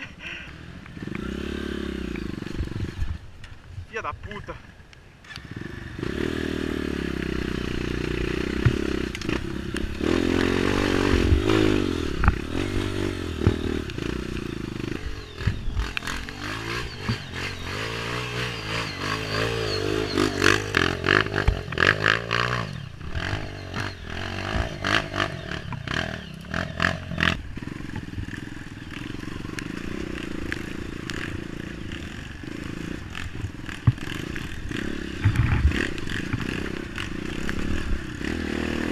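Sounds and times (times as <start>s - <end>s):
dirt bike engine revving: 0.0s - 3.4s, 5.2s - 38.9s.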